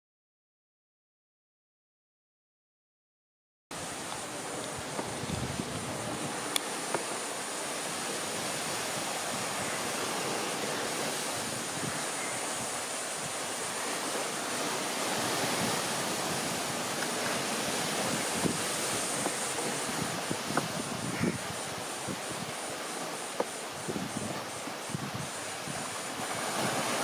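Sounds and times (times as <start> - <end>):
steady rushing noise: 3.7 - 27.0.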